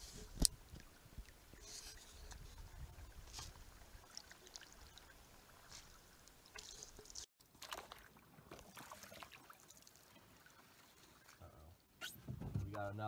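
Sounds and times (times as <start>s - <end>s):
paddles splashing in water: 0.0s - 11.4s
water trickling off paddles: 0.0s - 12.0s.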